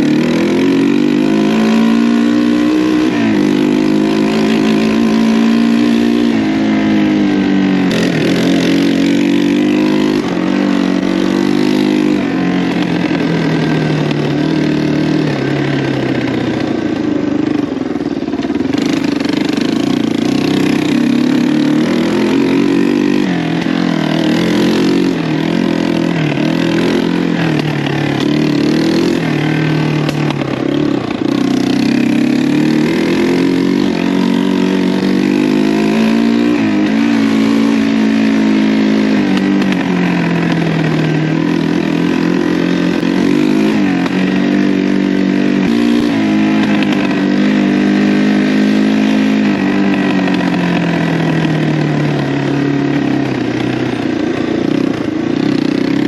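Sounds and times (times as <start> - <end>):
three-wheeler engine revving: 0.0 - 56.0.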